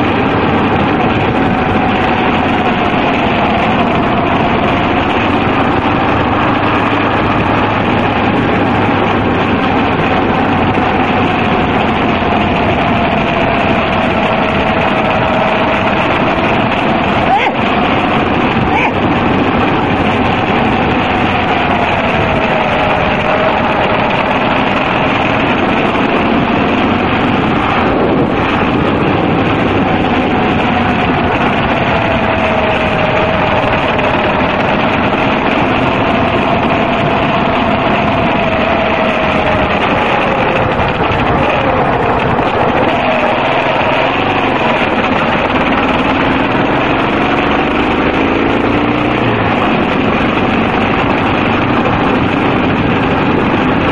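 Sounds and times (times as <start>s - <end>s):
motorcycle engine cruising: 0.0s - 53.9s
wind and road noise: 0.0s - 53.9s.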